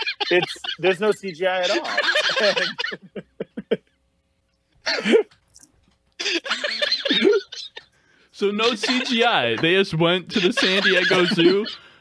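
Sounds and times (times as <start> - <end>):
men laughing: 0.0 - 4.0, 4.9 - 5.4, 6.2 - 8.0, 8.6 - 12.0.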